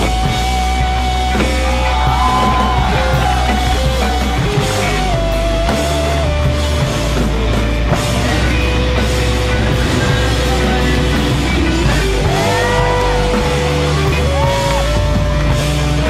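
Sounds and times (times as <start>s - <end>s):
rock music: 0.0s - 16.0s.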